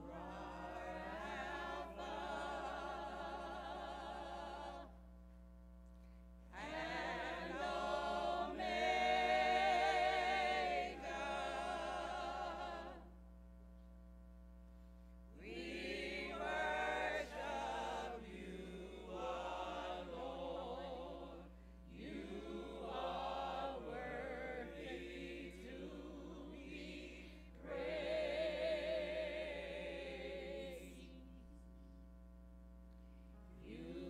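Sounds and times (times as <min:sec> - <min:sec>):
church choir singing gospel: 0:00.0 - 0:05.1, 0:06.5 - 0:13.2, 0:15.3 - 0:31.6, 0:33.5 - 0:34.0.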